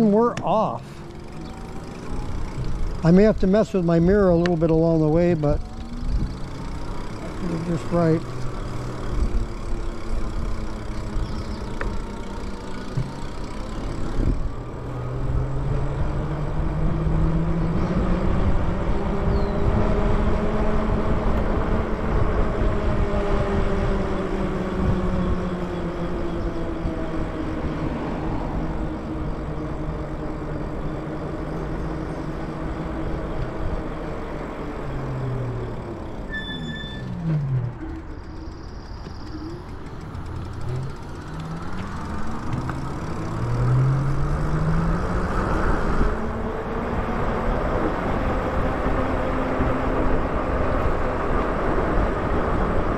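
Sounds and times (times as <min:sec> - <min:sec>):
electric bike motor whining: 0:00.0 - 0:52.9.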